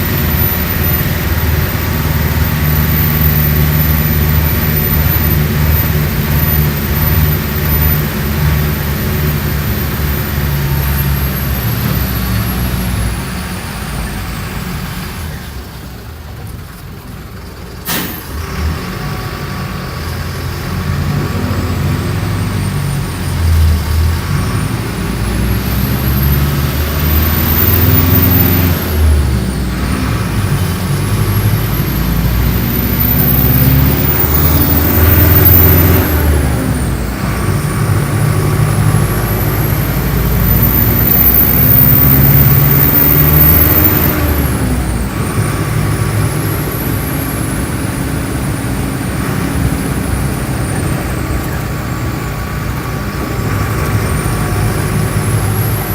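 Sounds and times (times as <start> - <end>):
bus diesel engine running: 0.0 - 55.9.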